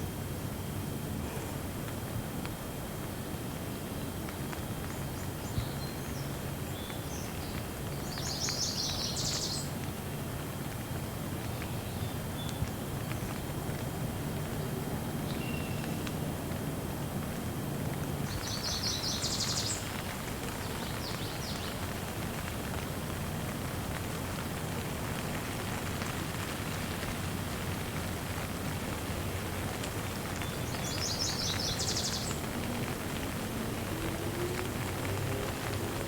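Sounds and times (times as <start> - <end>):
gentle rain: 0.0 - 36.0.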